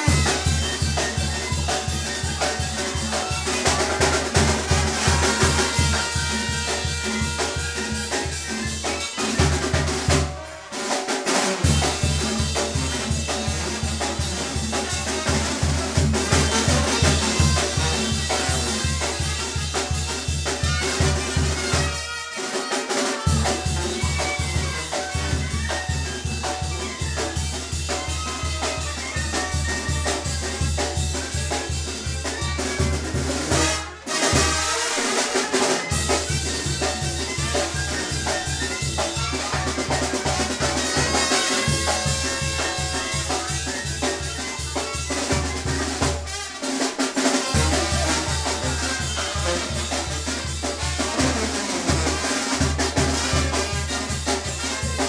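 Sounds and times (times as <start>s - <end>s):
brass band music: 0.0s - 55.0s.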